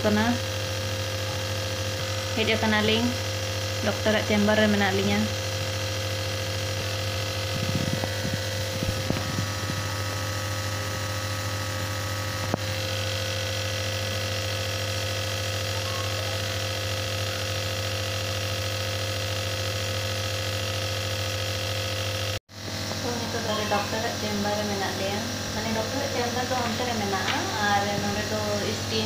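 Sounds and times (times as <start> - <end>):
nebulizer compressor humming: 0.0 - 29.0.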